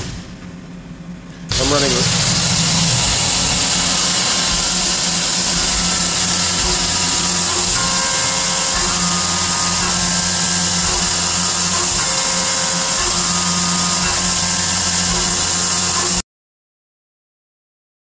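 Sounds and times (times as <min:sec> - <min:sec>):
end mill cutting steel: 0:01.5 - 0:16.2.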